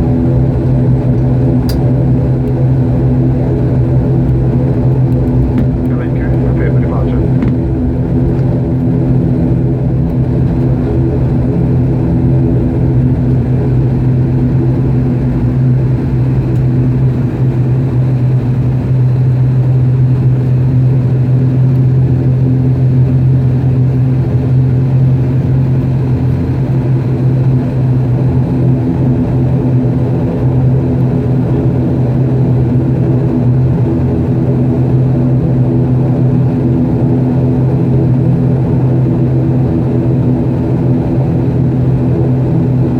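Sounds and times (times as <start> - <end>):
airliner engines droning in cabin: 0.0 - 42.9.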